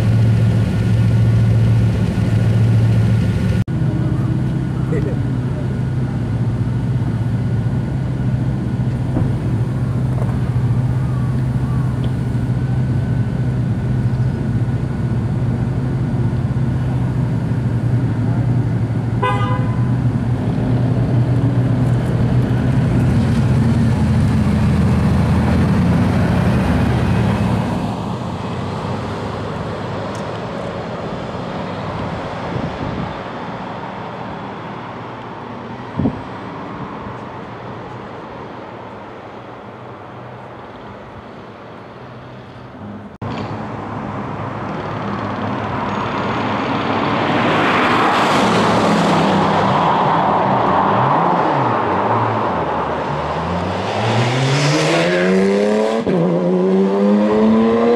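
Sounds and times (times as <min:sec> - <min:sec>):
sports car engines: 0:00.0 - 0:57.9.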